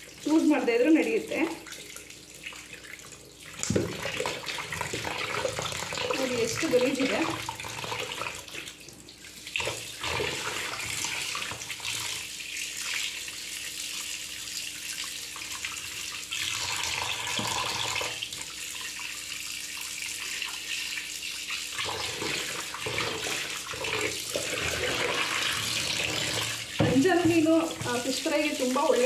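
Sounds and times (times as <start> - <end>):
hands rinsing fish: 0.0 - 29.0
tap water running into bowl: 0.0 - 29.0.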